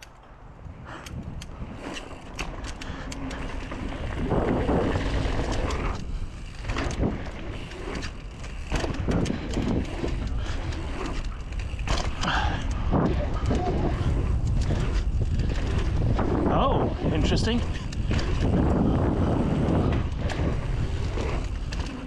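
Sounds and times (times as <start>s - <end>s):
bike tyres rolling on dirt: 0.0s - 22.0s
wind buffeting microphone: 0.0s - 22.0s
bike knocks and rattles: 1.2s - 22.0s.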